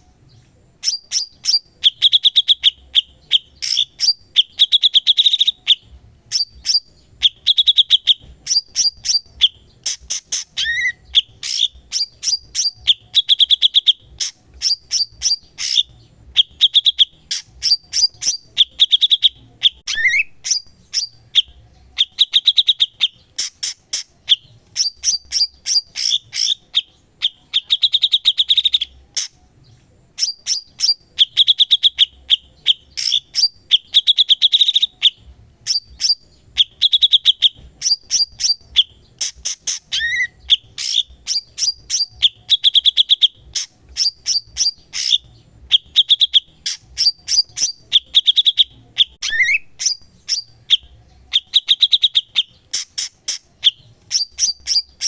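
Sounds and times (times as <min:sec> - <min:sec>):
songbird chips and trills: 0:00.3 - 0:55.0.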